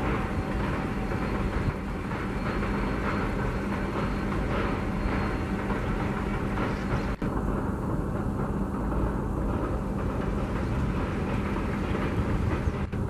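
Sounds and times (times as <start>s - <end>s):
coaches rumbling on rails: 0.0s - 13.0s
diesel locomotive humming: 0.0s - 13.0s.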